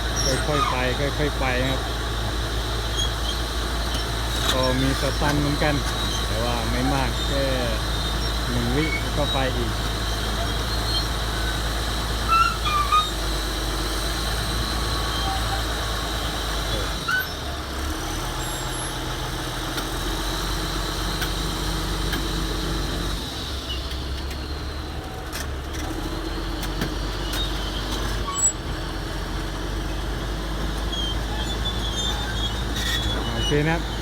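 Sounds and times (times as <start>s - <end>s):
bulldozer diesel engine under load: 0.0s - 34.0s.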